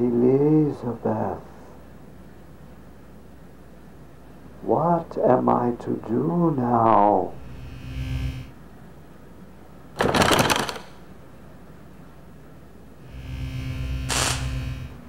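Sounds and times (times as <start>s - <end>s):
low buzzing hum: 0.0s - 10.0s, 11.0s - 15.0s.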